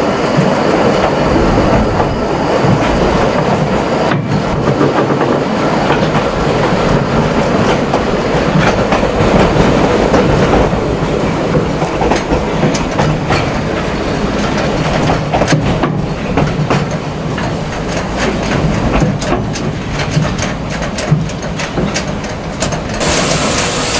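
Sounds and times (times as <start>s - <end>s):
train rumble and rattle: 0.0s - 23.9s
wheels clicking over rail joints: 0.0s - 23.9s.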